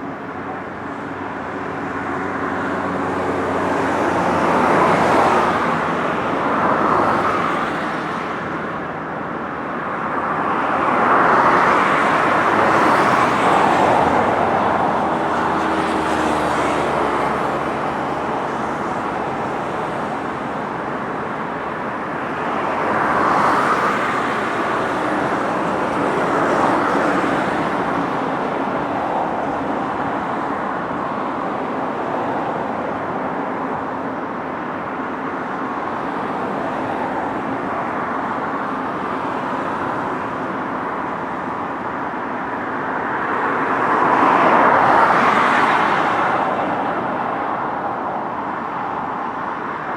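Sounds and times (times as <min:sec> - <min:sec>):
road traffic passing: 0:00.0 - 0:49.9.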